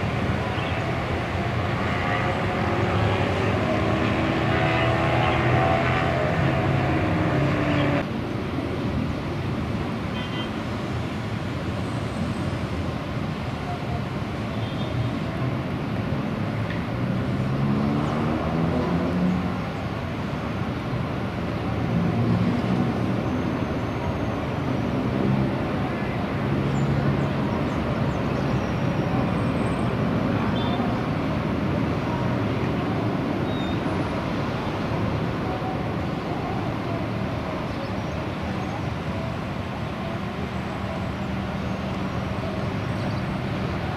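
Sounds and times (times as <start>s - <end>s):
broad rushing noise: 0.0s - 43.9s
distant jet engine roar: 0.0s - 43.9s.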